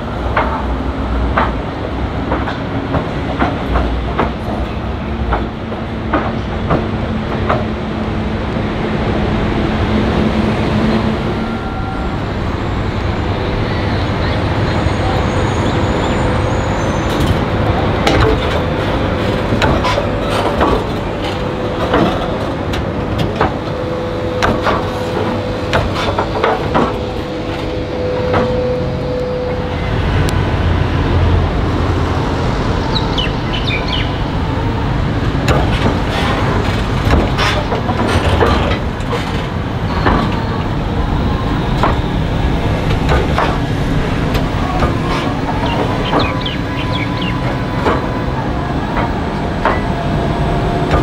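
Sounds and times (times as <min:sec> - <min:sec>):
tram low rumble: 0:00.0 - 0:51.0
tram wheels clacking over rail joints: 0:00.0 - 0:51.0.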